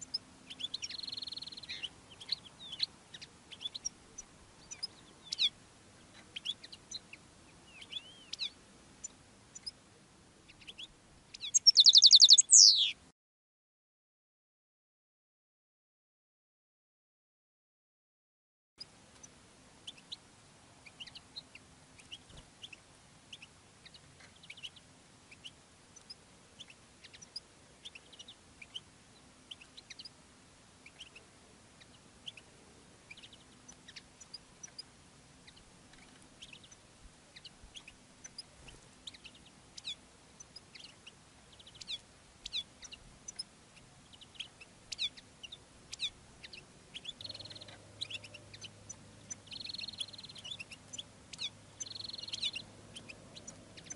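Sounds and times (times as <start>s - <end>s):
finches chirping and twittering: 0.0s - 9.8s, 10.5s - 13.0s, 20.8s - 30.2s, 30.8s - 53.9s.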